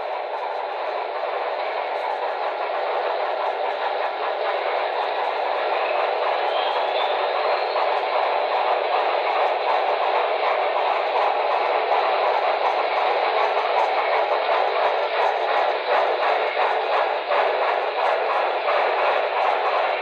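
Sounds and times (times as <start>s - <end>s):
model train steam exhaust: 0.0s - 20.0s.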